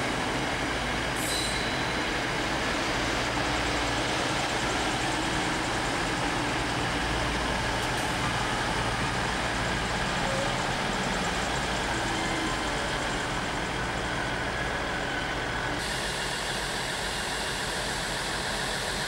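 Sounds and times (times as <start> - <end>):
diesel engine humming: 0.0 - 15.9
train rolling noise: 0.0 - 19.0.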